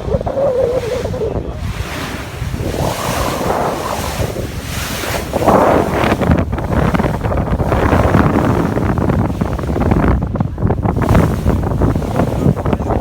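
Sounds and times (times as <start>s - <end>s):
sea waves washing: 0.0s - 13.0s
wind buffeting microphone: 0.0s - 13.0s.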